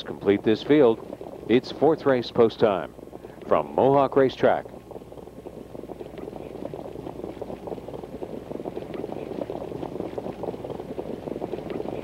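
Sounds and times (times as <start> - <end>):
crackling rumble of racetrack: 0.0 - 12.0.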